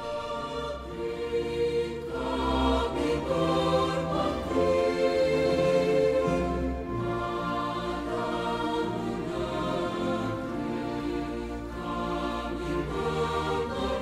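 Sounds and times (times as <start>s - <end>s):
slow background music: 0.0s - 14.0s.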